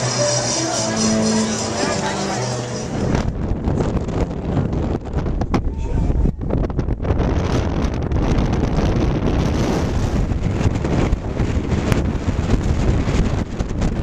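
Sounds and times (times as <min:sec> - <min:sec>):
boat and water: 0:00.0 - 0:14.0
wind rushing on microphone: 0:00.0 - 0:14.0.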